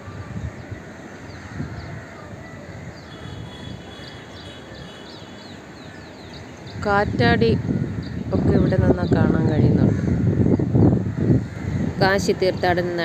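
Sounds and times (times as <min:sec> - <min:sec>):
birds chirping: 0:00.0 - 0:13.0
wind: 0:00.0 - 0:13.0.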